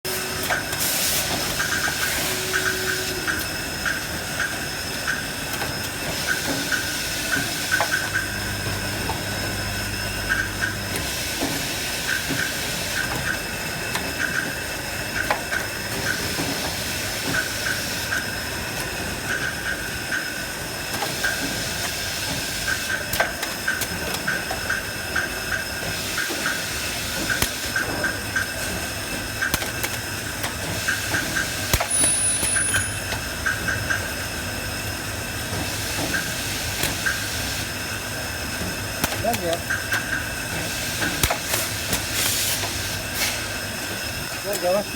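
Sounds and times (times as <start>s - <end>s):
packaging machine humming: 0.1s - 44.9s.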